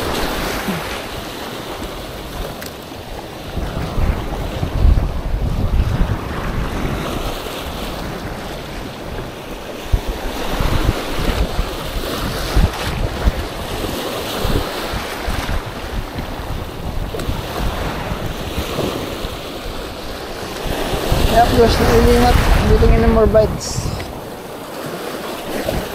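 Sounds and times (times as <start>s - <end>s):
surf washing onto beach: 0.0s - 25.9s
wind buffeting microphone: 0.0s - 25.9s.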